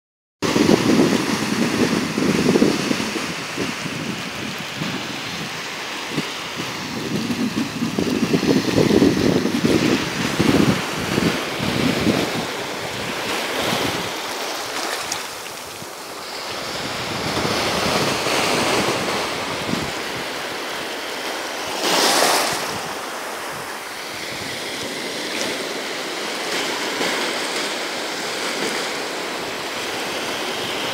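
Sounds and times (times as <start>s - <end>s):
small waves breaking on beach: 0.4s - 30.9s
wind buffeting microphone: 0.4s - 30.9s.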